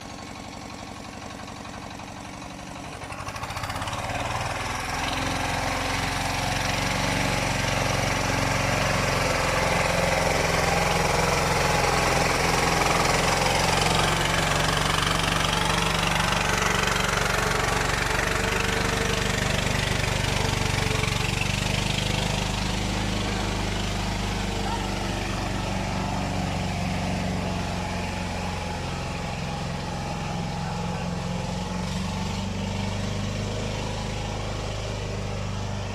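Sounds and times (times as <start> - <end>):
walk-behind tractor engine: 0.0 - 35.9.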